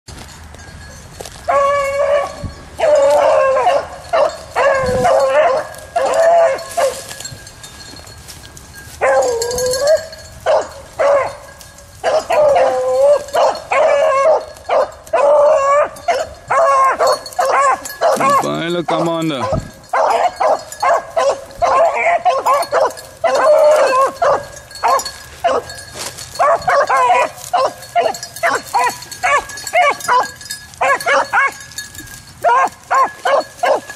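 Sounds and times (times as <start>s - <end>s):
hounds baying: 1.1s - 33.9s.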